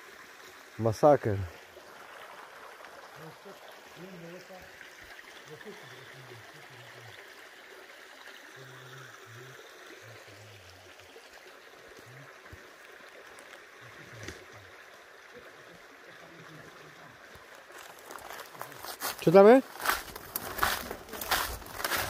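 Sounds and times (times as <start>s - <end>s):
faint rushing stream water: 0.0s - 22.0s.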